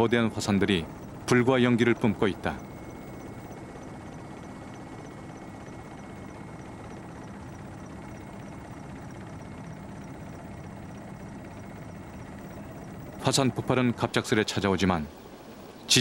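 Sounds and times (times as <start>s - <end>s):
engine drone: 0.0s - 16.0s
faint rapid ticking: 0.0s - 16.0s.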